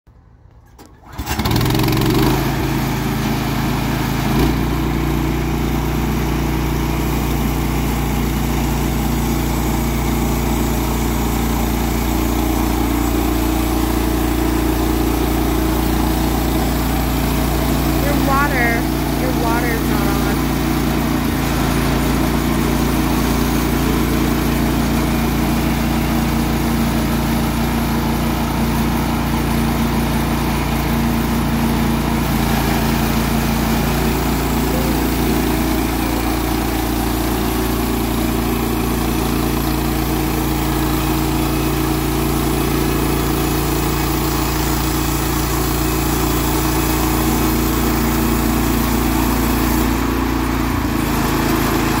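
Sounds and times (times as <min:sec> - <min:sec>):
sawmill engine running: 0:01.0 - 0:52.0.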